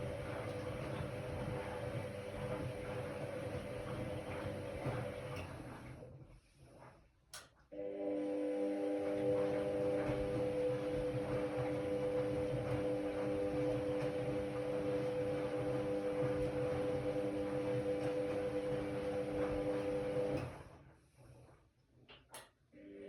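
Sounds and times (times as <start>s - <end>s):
washer-dryer motor hum: 0.0s - 23.0s.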